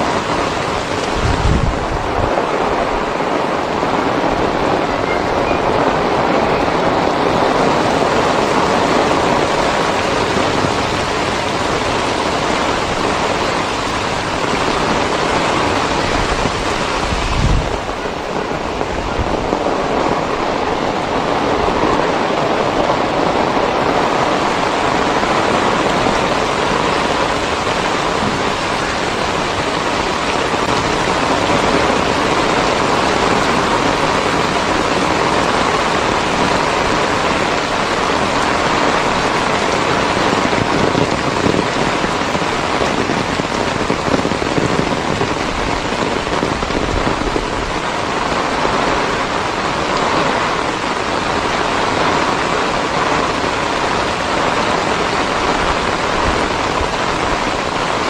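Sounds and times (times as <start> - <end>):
heavy rain on standing water: 0.0 - 58.0.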